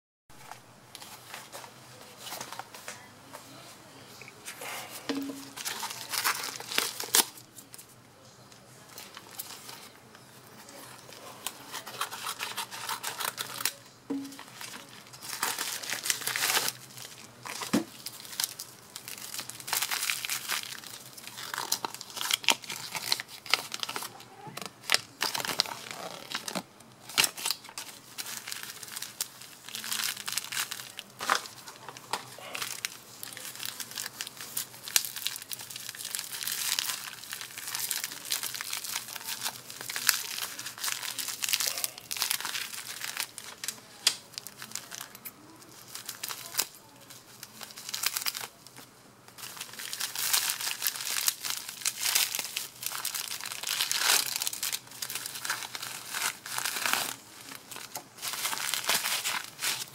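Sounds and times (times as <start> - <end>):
bubble wrap crinkling: 0.3 - 8.0, 8.6 - 59.9.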